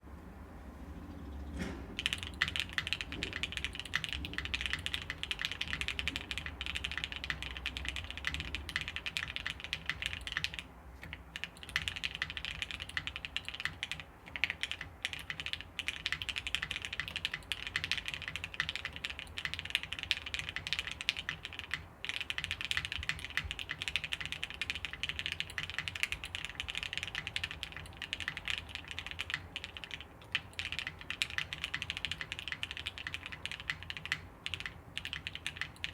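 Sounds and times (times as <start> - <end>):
mechanical keyboard typing: 2.0 - 35.9.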